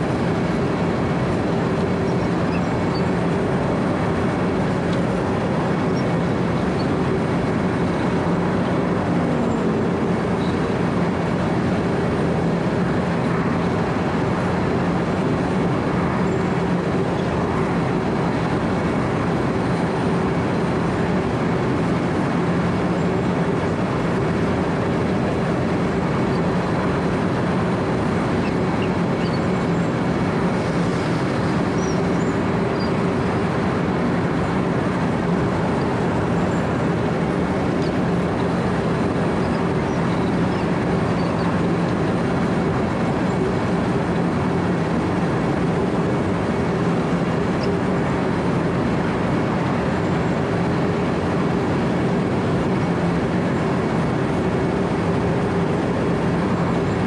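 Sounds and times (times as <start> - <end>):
diesel engine humming: 0.0 - 57.0
milling drum grinding asphalt: 0.0 - 57.0.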